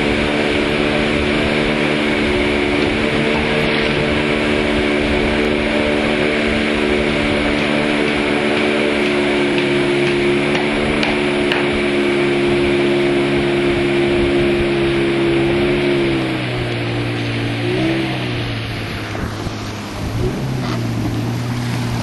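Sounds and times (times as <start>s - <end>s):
boat engine running: 0.0s - 22.0s
rushing water noise: 0.0s - 22.0s.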